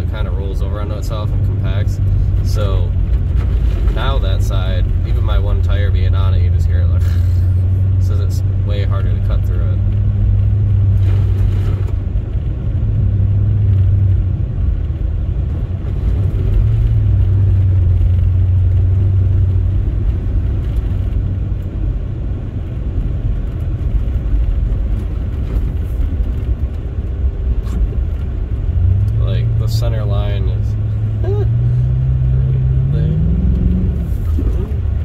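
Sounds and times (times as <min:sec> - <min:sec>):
low engine drone: 0:00.0 - 0:35.0
tyres rumbling on snow: 0:00.0 - 0:35.0.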